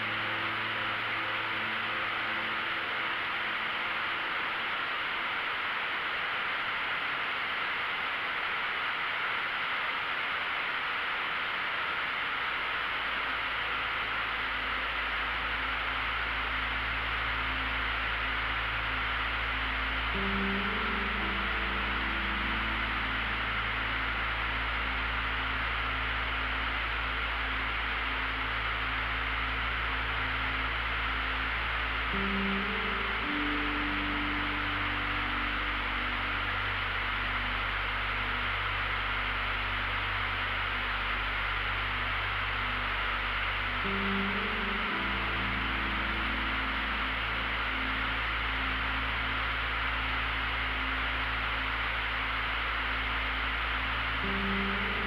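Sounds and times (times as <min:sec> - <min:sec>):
small aircraft engine drone: 0:00.0 - 0:55.0.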